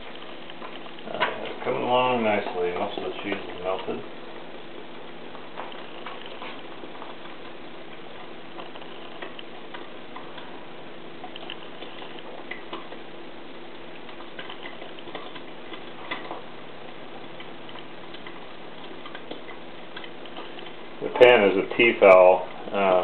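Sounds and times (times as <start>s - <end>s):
eggs frying with pops and hiss: 0.0s - 23.0s
steady hum: 0.0s - 23.0s.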